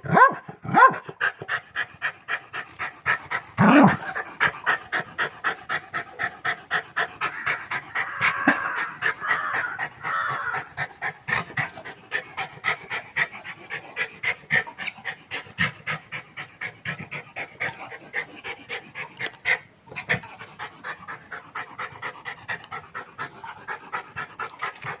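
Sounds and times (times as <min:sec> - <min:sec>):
dog panting rapidly: 0:00.4 - 0:25.0.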